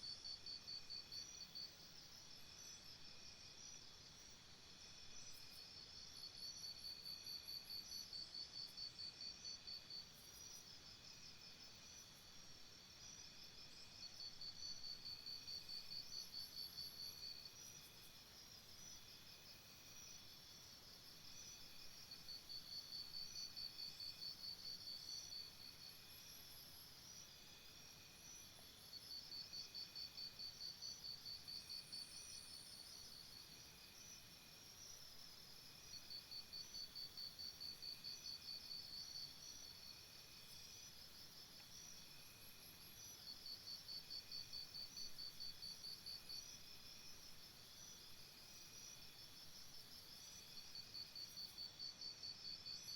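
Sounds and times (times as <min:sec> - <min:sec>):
steady high insect chorus: 0:00.0 - 0:52.9.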